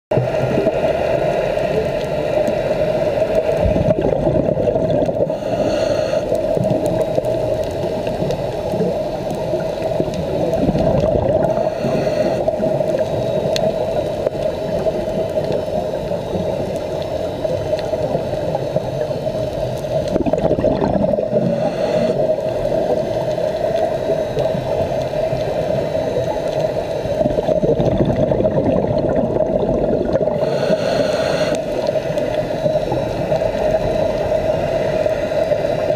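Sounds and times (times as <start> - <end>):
regulator bubbling and gurgling: 0.1 - 35.9
underwater hum: 0.1 - 35.9.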